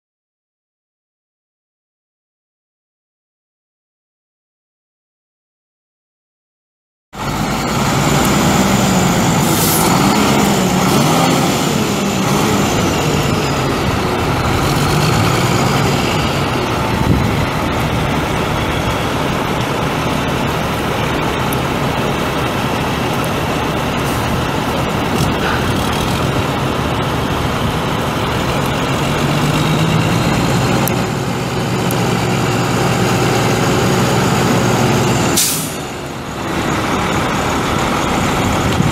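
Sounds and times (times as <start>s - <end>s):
diesel truck engine running: 7.2s - 38.9s.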